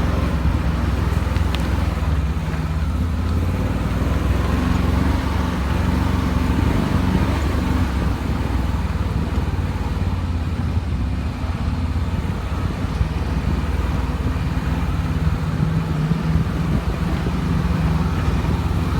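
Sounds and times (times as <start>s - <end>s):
vehicle engine rumbling: 0.0s - 18.9s.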